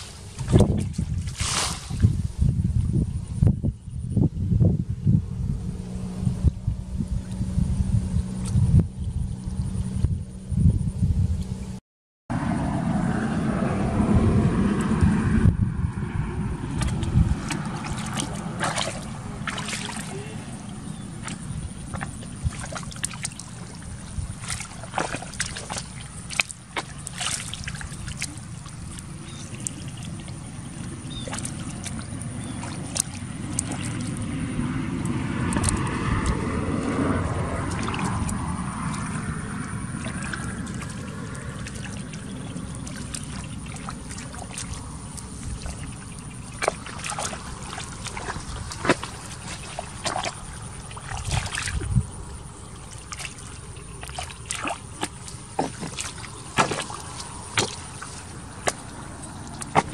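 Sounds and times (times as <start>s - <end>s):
sloshing in muddy water: 0.0s - 2.9s, 12.3s - 59.9s.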